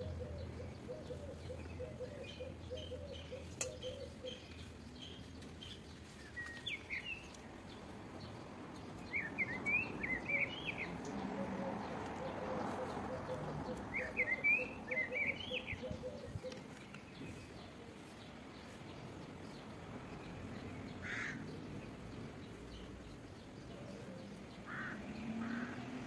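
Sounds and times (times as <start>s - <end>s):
soft outdoor hiss: 0.0s - 26.0s
songbird chirping: 0.0s - 26.0s.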